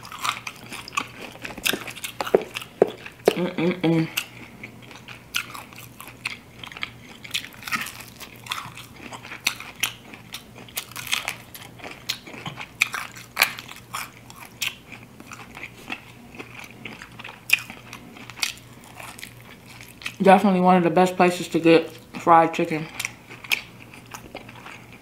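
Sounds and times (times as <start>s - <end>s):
crunchy chewing: 0.0s - 3.4s, 4.1s - 20.2s, 22.9s - 25.0s.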